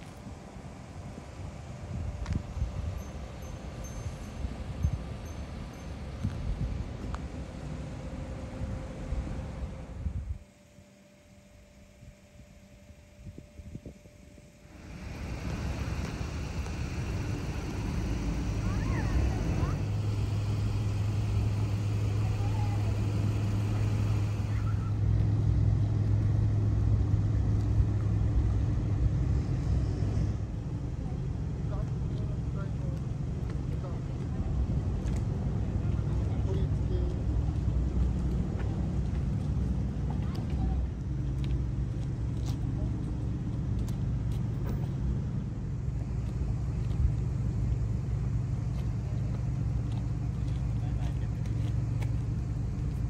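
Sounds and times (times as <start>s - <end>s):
low engine hum: 0.0s - 53.0s.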